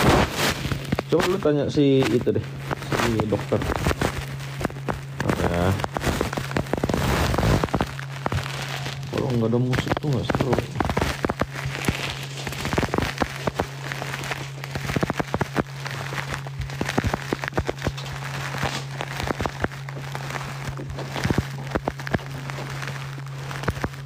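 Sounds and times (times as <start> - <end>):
sharp clicks and crackles: 0.0 - 24.0
steady low hum: 0.0 - 24.0.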